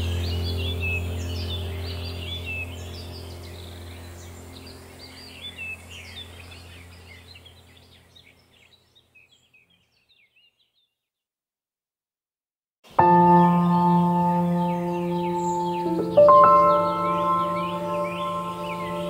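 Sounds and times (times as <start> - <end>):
steady low hum: 0.0 - 9.2, 12.9 - 19.0
songbirds chirping: 0.0 - 11.3, 12.9 - 19.0.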